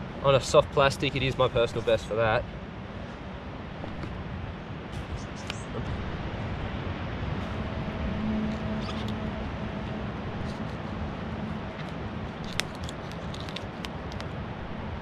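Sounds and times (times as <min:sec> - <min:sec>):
low hum: 0:02.4 - 0:15.0.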